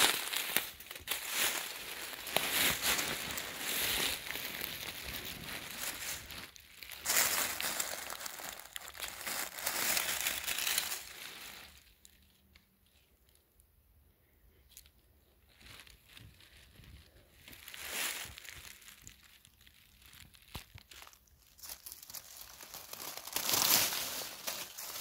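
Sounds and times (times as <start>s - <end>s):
dry leaves rustling and crunching: 0.0s - 13.0s, 15.5s - 25.0s.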